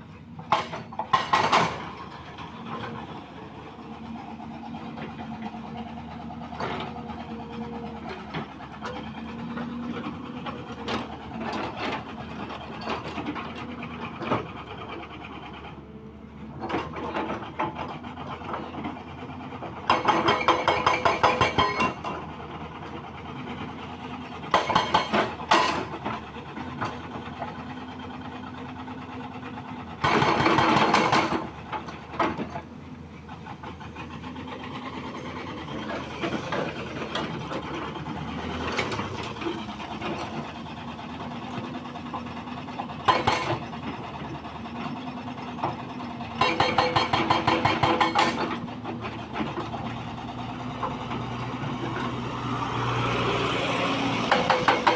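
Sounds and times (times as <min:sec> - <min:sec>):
heavy machinery engine running: 0:00.0 - 0:54.9.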